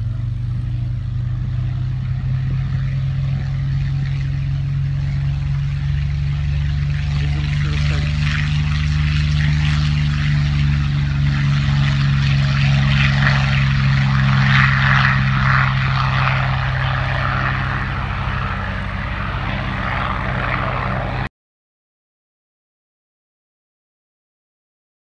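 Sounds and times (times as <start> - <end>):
propeller plane engine taking off: 0.0 - 21.3.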